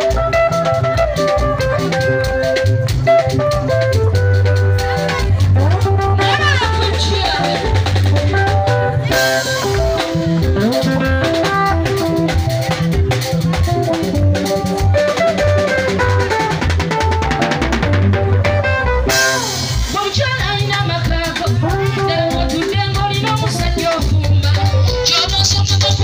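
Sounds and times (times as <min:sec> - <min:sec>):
drum kit beat: 0:00.0 - 0:26.0
electric guitar: 0:00.0 - 0:26.0.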